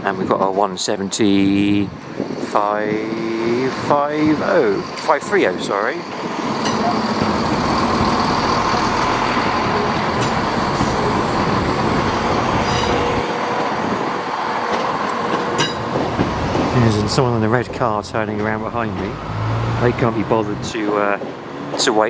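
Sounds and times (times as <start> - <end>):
train engine rumble: 0.0 - 22.0
train wheel and rail noise: 0.0 - 22.0.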